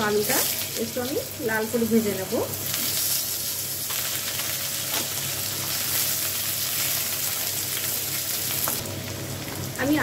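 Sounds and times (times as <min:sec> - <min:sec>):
potatoes sizzling in hot oil: 0:00.0 - 0:10.0.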